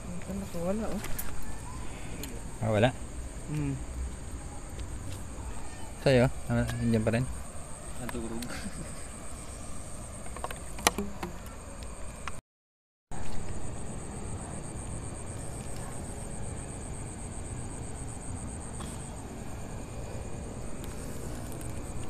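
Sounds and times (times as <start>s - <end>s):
crickets chirring: 0.0s - 12.4s, 13.1s - 22.0s.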